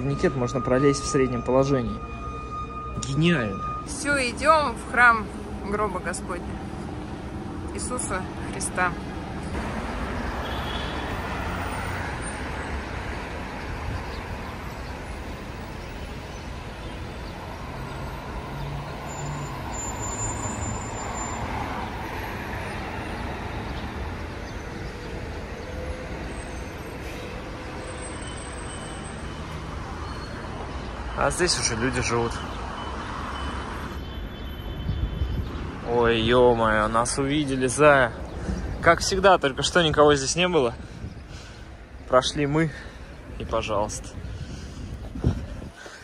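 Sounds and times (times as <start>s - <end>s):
road traffic: 0.0s - 46.0s.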